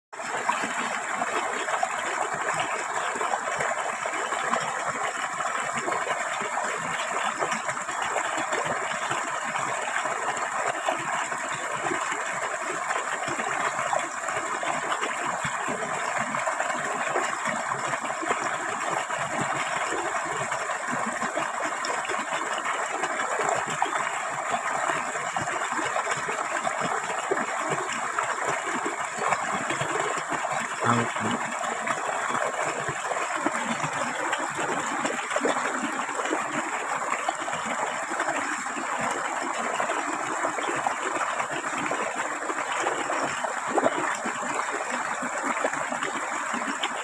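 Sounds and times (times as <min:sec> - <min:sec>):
water flowing: 0:00.2 - 0:47.0.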